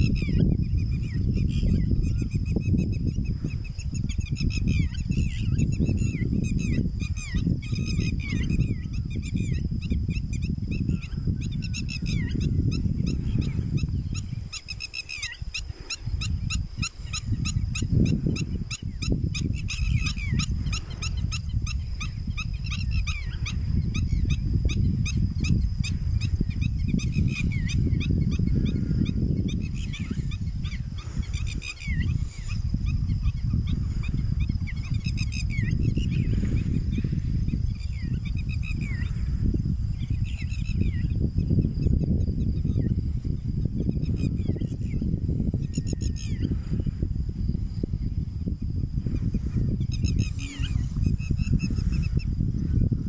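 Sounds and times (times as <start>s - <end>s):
birds chirping: 0.0s - 39.3s, 49.1s - 52.9s
wind buffeting microphone: 0.0s - 53.0s.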